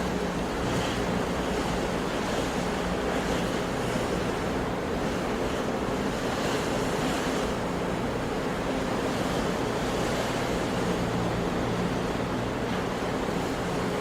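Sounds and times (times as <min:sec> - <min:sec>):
sea waves breaking on shore: 0:00.0 - 0:14.0
wind: 0:00.0 - 0:14.0.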